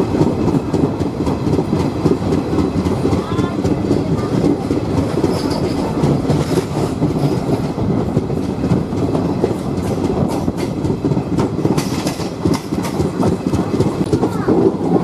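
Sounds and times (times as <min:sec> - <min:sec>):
train coach rumbling: 0:00.0 - 0:15.0
wheels clicking over rail joints: 0:00.0 - 0:15.0.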